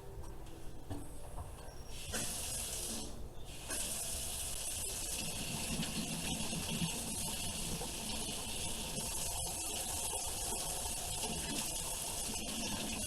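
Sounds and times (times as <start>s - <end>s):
running water hissing: 1.9s - 13.0s.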